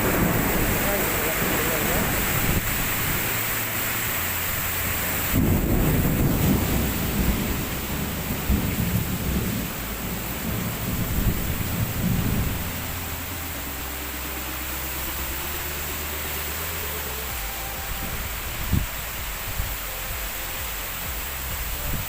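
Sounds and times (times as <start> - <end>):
strong wind: 0.0 - 15.3, 17.2 - 20.3, 21.5 - 22.0
deep uneven rumble: 0.0 - 22.0
heavy rain pouring: 0.0 - 22.0.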